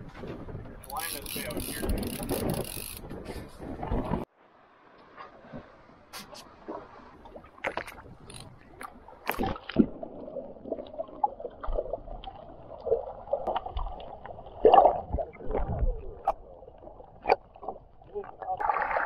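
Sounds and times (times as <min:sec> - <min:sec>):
muffled water sloshing: 0:03.6 - 0:19.0.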